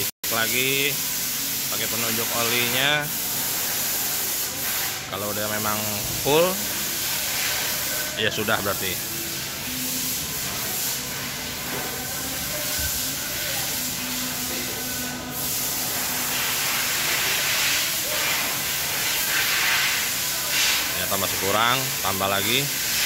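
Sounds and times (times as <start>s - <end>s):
steady hiss: 0.2s - 23.0s.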